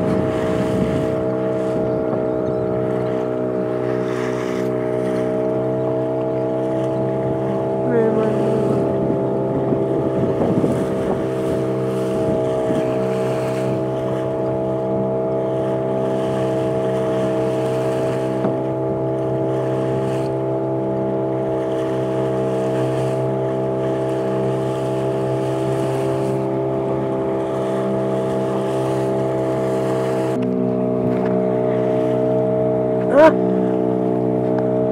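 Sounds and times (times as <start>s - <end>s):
boat motor running: 0.0s - 34.9s
rough wind or water noise: 0.0s - 34.9s.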